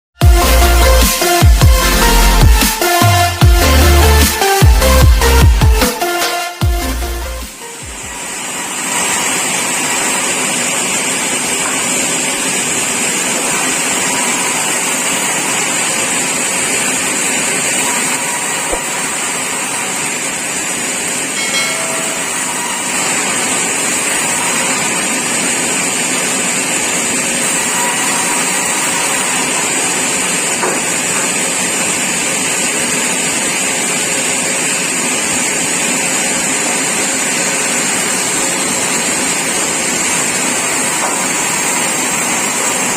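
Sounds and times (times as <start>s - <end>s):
sawmill machinery hissing: 0.2s - 42.9s.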